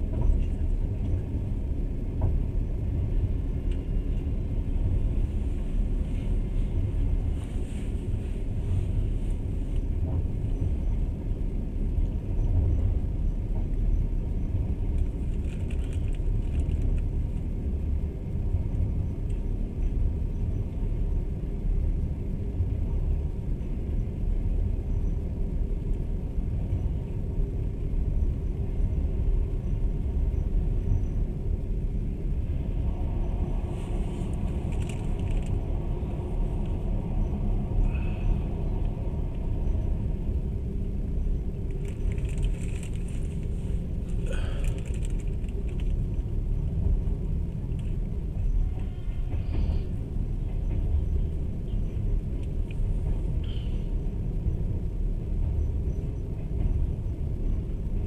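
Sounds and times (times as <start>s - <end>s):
train running rumble inside carriage: 0.0s - 58.0s.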